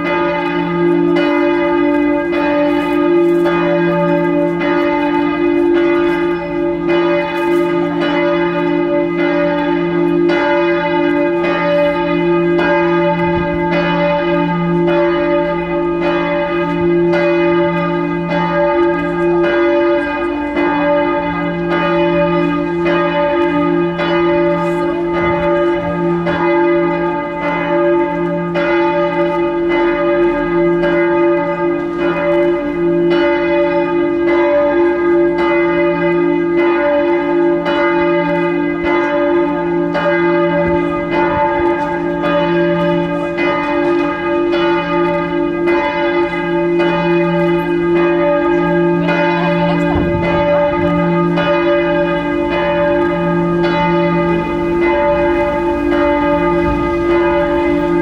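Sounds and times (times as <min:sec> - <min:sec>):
large church bell tolling: 0:00.0 - 0:58.0.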